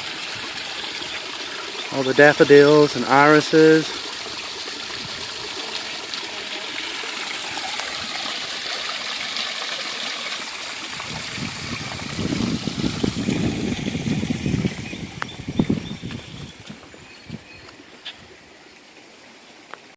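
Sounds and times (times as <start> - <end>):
water trickling over rocks: 0.0 - 19.9.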